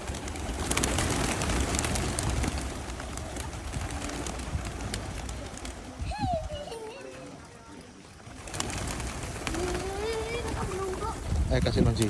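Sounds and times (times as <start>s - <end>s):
pigeons cooing: 0.0s - 11.3s
pigeon wings fluttering: 0.0s - 12.0s.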